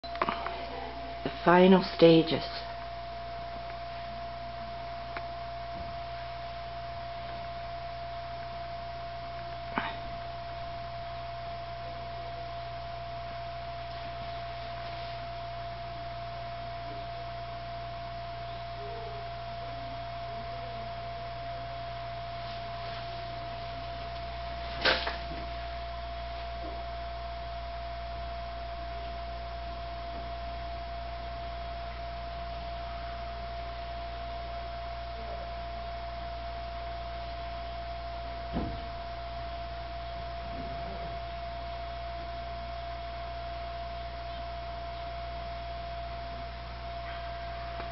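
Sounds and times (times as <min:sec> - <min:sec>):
low hum: 0:00.0 - 0:47.9
steady electrical whine: 0:00.0 - 0:47.9.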